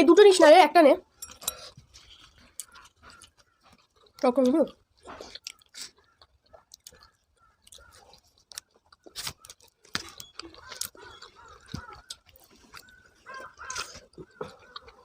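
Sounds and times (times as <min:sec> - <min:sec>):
person chewing food: 0:01.2 - 0:15.0.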